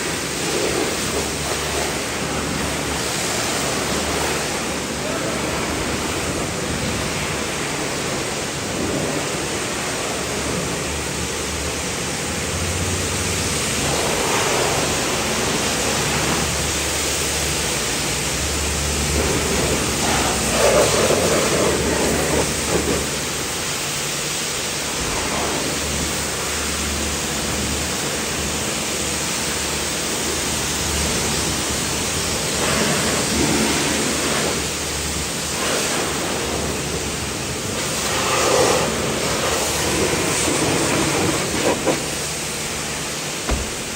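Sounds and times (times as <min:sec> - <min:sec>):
high-pressure water spraying car: 0:00.0 - 0:43.9.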